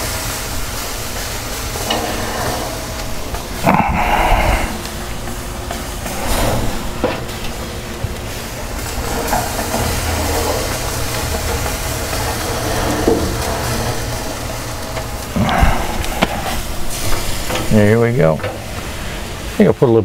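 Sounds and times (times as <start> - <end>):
low steady rumble: 0.0 - 19.6
fat sizzling on hot charcoal: 0.0 - 20.0.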